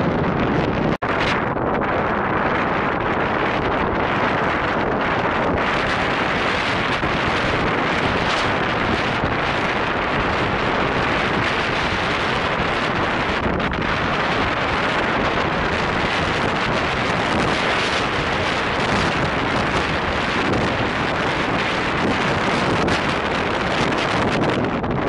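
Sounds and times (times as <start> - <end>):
wind blowing across microphone: 0.0 - 25.0.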